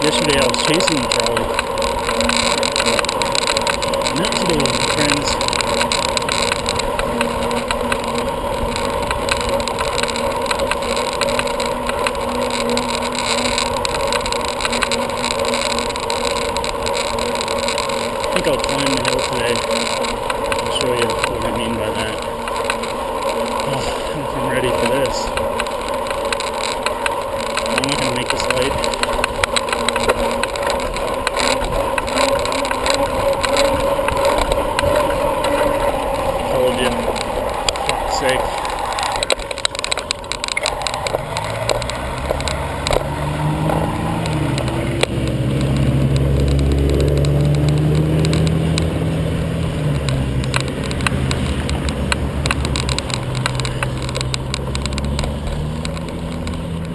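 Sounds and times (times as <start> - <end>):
bicycle rolling noise: 0.0 - 56.9
constant low hum: 0.0 - 56.9.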